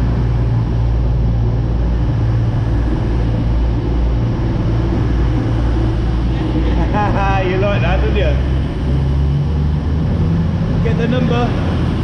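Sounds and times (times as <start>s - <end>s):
train diesel engines running: 0.0s - 12.0s.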